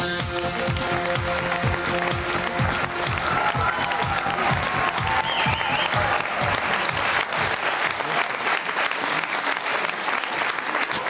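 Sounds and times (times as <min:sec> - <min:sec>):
audience applauding: 0:00.3 - 0:11.0.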